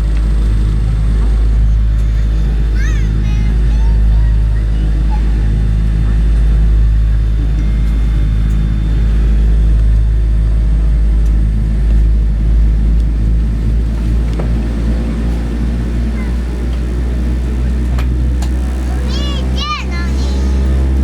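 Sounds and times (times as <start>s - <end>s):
airliner cabin rumble: 0.0s - 21.0s.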